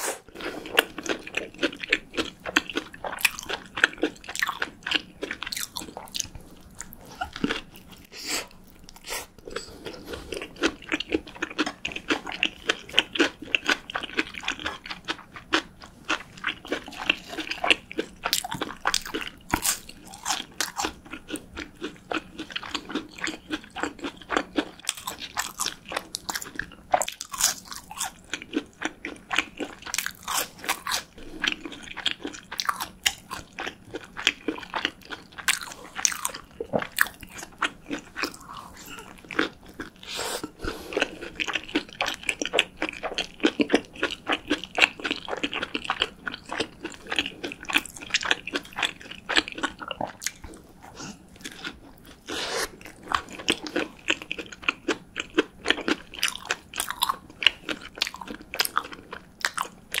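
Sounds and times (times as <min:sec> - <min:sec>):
chewing and biting food: 0:00.3 - 1:00.0.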